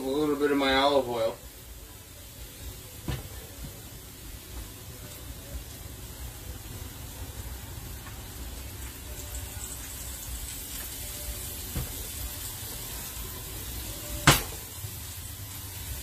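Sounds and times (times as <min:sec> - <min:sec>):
steaks sizzling in a frying pan: 0:00.0 - 0:16.0.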